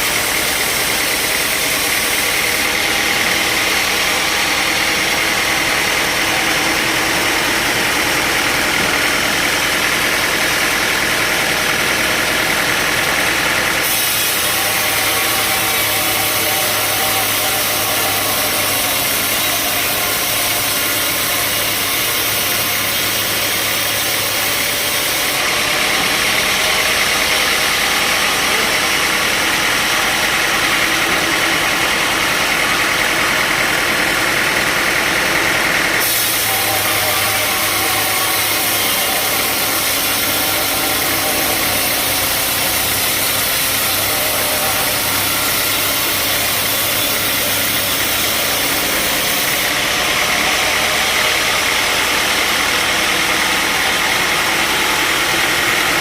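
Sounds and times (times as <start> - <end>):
sawmill machinery hum and hiss: 0.0 - 56.0.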